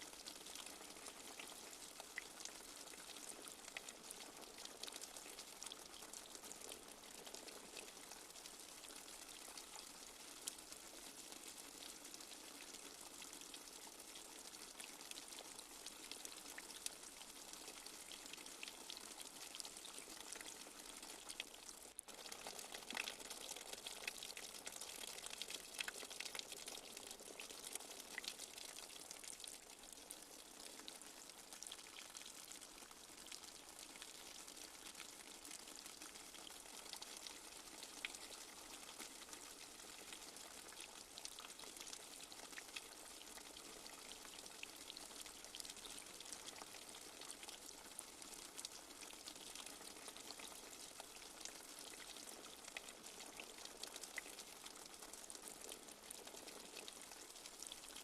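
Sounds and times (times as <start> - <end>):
light rain with drips: 0.0 - 58.0.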